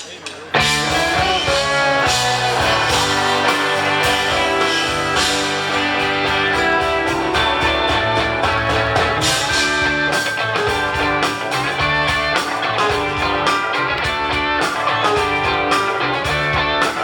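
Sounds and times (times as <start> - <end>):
drums keeping a steady beat: 0.0 - 17.0
guitars: 0.0 - 17.0.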